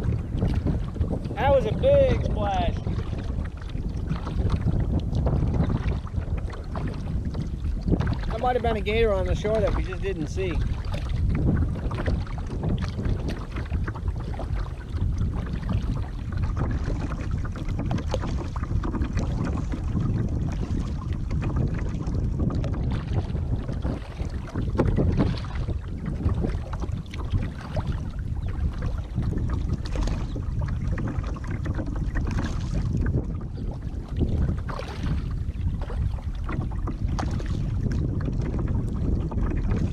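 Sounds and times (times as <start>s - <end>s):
paddle strokes splashing: 0.0s - 39.9s
wind rumble on microphone: 0.0s - 39.9s.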